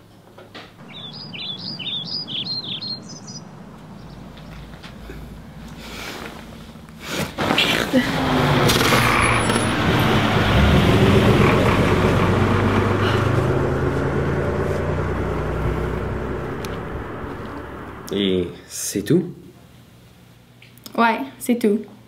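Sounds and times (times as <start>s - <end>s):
vehicle engine passing: 0.8s - 18.6s.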